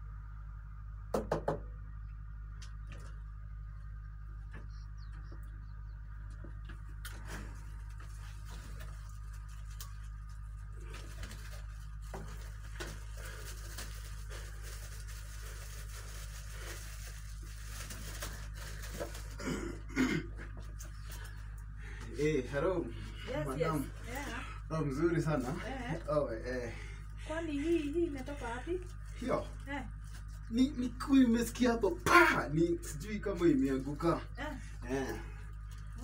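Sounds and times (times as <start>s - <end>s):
low hum: 0.0s - 36.0s.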